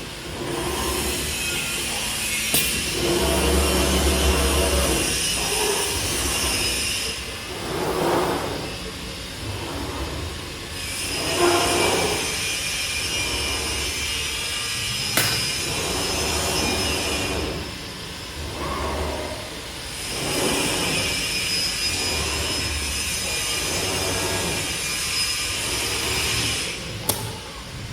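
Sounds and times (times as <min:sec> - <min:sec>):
router machine whine: 0:00.0 - 0:27.0
motor sounds swelling: 0:00.0 - 0:27.1.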